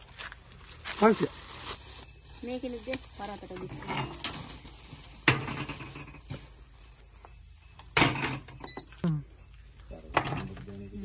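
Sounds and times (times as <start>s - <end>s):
crickets shrilling: 0.0s - 11.0s.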